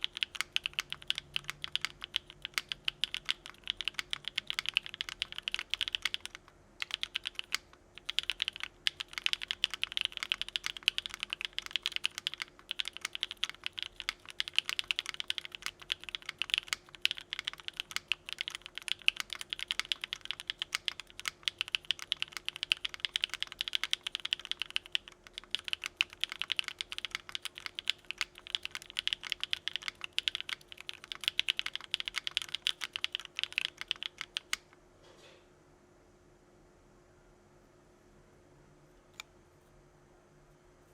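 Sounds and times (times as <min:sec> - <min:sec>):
mechanical keyboard typing: 0:00.0 - 0:34.8.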